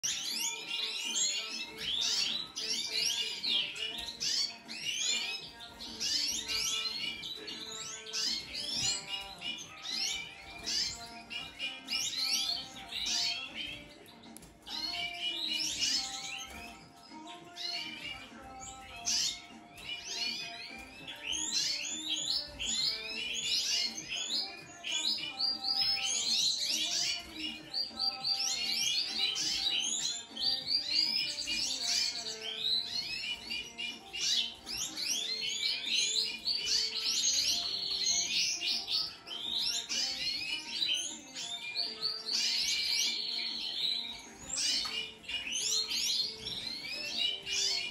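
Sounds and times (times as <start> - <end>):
finch twittering song: 0.0 - 47.9
small birds chirping: 0.0 - 47.9.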